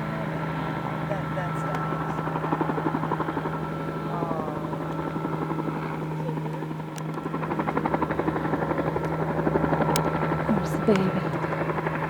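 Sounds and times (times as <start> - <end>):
helicopter rotor chop: 0.0 - 12.0
low engine hum: 0.0 - 12.0.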